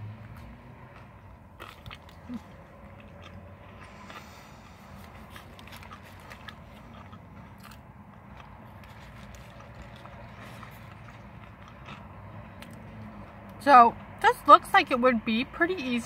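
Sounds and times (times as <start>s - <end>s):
person chewing crunchy food: 0.0s - 13.6s.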